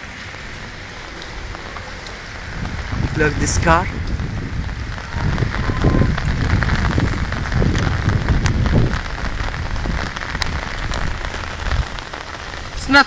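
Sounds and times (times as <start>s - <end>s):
low rumble: 0.0s - 12.6s
heavy rain pouring: 0.0s - 13.0s.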